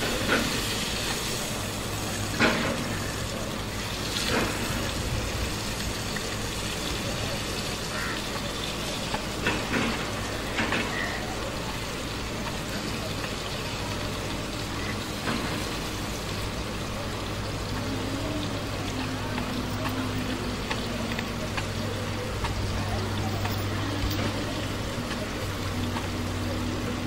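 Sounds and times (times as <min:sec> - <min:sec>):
fish sizzling in a pan: 0:00.0 - 0:26.2.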